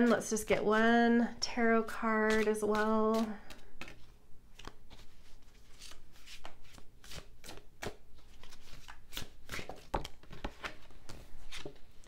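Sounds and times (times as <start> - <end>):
cards being shuffled: 2.3 - 12.0.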